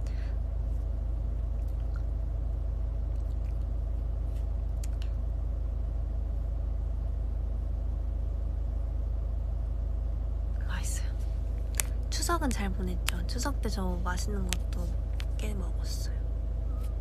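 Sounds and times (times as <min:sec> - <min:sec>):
low hum inside car cabin: 0:00.0 - 0:17.0.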